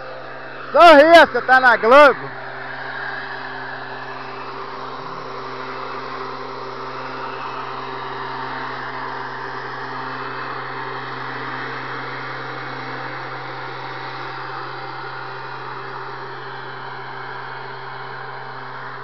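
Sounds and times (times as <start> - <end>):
rush of air from blower: 0.0 - 19.0
small engine hum: 0.0 - 19.0.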